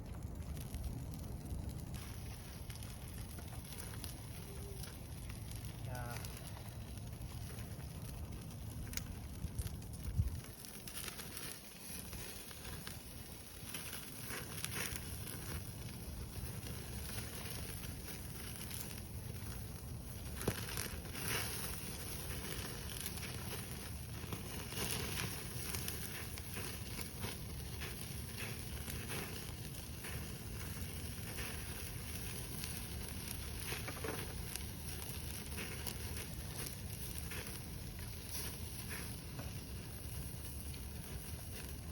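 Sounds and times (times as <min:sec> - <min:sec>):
sharp pops of fire: 0:00.0 - 0:41.9
wood fire crackling: 0:00.0 - 0:41.9.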